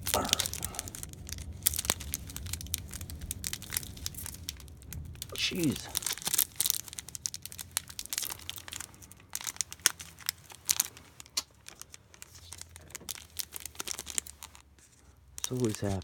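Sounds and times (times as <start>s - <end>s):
plastic wrapper crinkling and tearing: 0.0s - 16.0s.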